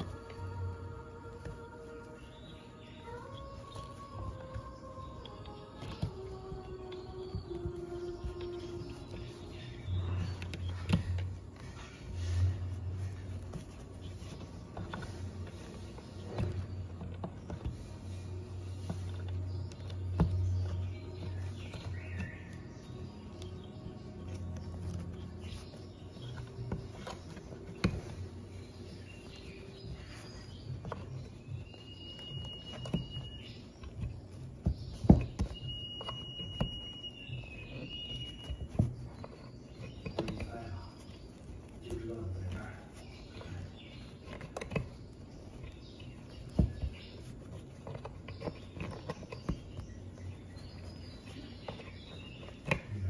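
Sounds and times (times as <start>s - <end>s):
soft fabric rustling: 0.0s - 53.0s.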